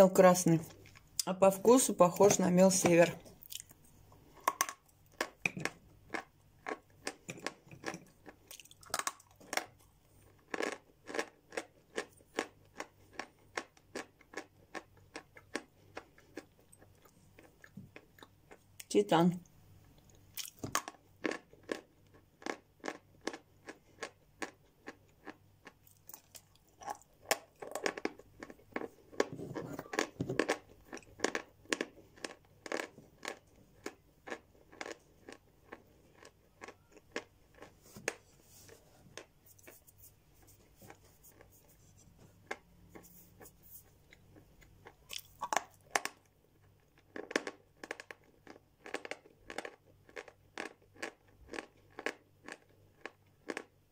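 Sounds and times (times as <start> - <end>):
chalk crunching while chewed: 3.4 - 18.8, 20.1 - 41.8, 42.4 - 53.8.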